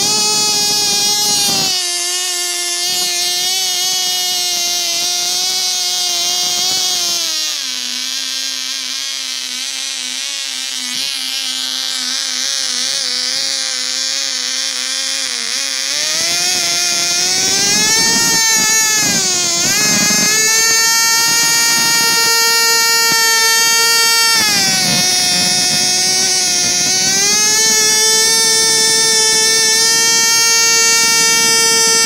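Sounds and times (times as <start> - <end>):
model engine high-pitched buzz: 0.0 - 32.0.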